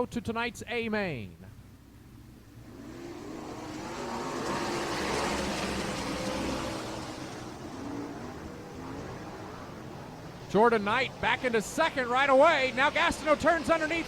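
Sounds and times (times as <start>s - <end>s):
racing car engines roaring: 2.3s - 14.0s.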